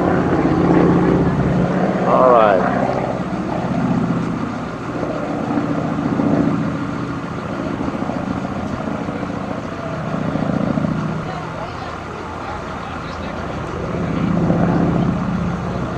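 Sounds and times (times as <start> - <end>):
propeller airplane droning: 0.0 - 15.9.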